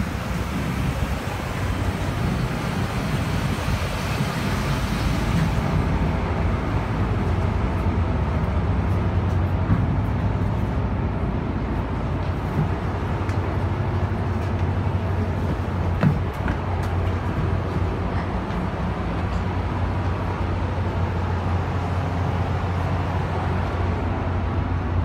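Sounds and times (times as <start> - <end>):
ferry diesel engines humming: 0.0 - 25.0.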